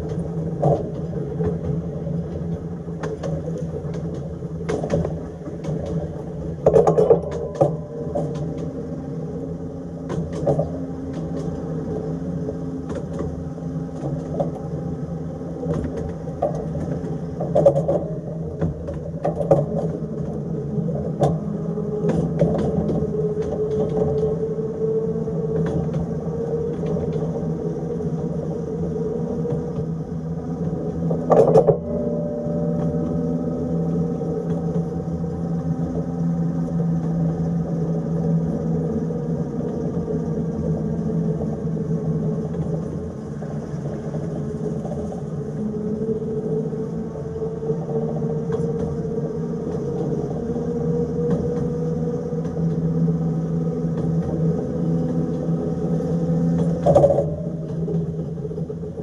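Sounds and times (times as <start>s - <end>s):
tram rumble and motor hum: 0.0s - 59.0s.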